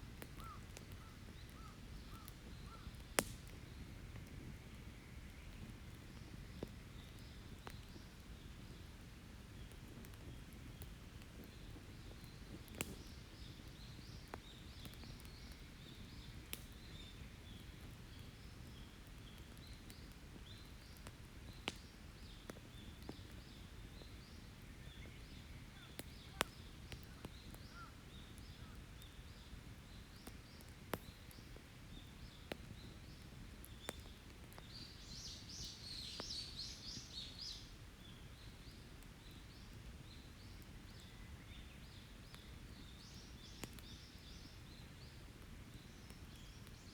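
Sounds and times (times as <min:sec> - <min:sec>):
campfire crackling and popping: 0:00.0 - 0:46.9
forest birds chirping: 0:00.2 - 0:46.9.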